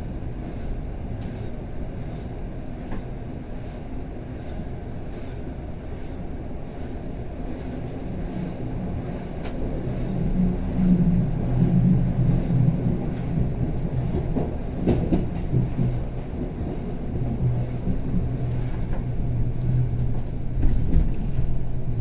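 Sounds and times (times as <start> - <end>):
train rumble and hum: 0.0 - 22.0.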